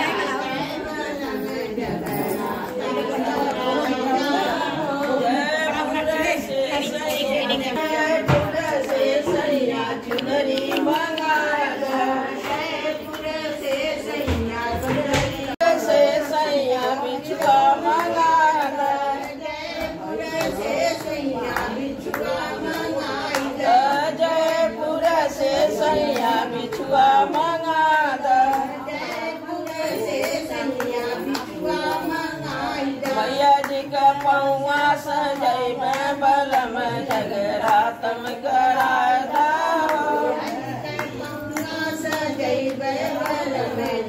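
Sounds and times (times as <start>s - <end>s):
rhythmic hand-clapping: 0.0s - 44.0s
women singing together: 0.0s - 44.0s.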